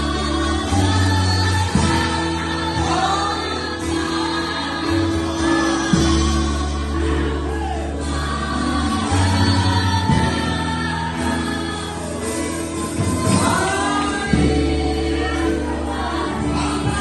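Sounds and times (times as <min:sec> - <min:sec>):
choir singing worship music: 0:00.0 - 0:17.0
held bass and chords: 0:00.0 - 0:17.0.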